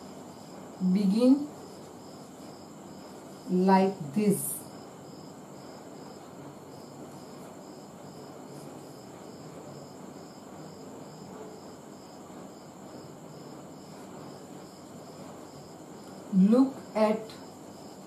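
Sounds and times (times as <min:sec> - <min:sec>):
insect chirping: 0:00.0 - 0:18.0
steady background hiss: 0:00.0 - 0:18.0.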